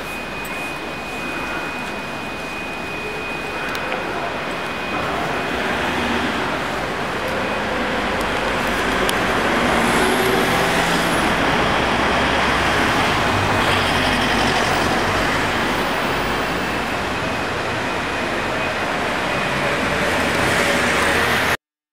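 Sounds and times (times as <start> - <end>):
city street traffic: 0.0 - 21.6.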